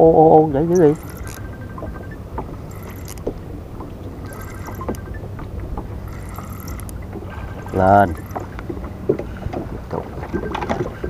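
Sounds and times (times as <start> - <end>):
wind buffeting microphone: 0.6 - 11.0
small clicks and knocks: 0.8 - 11.0.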